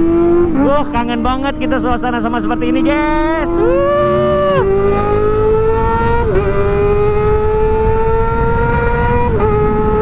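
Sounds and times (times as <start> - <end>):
motorcycle engine accelerating hard: 0.0 - 10.0.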